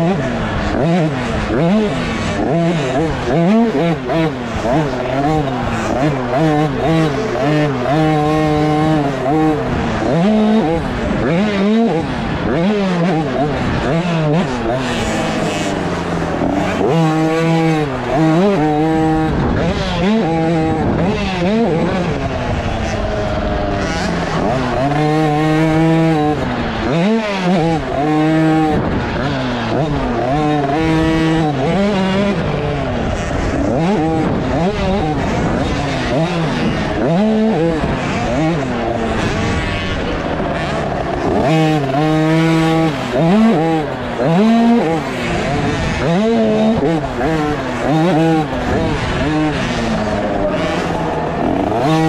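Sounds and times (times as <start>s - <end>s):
track noise: 0.0s - 52.0s
two-stroke motocross bike revving: 0.0s - 52.0s
wind: 0.0s - 52.0s.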